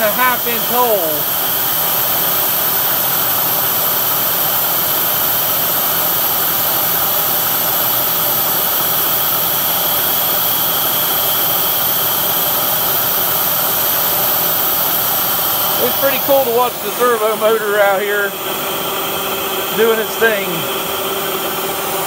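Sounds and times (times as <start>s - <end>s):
milling machine cutting steel: 0.0s - 22.0s.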